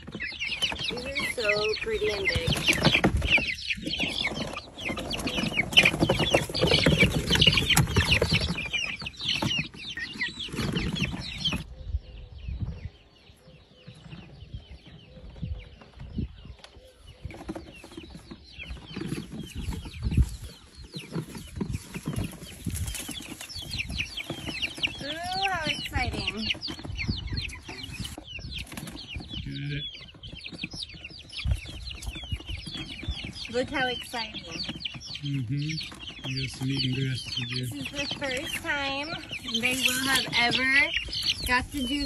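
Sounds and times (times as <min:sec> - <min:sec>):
chicks cheeping and clucking: 0:00.0 - 0:42.0.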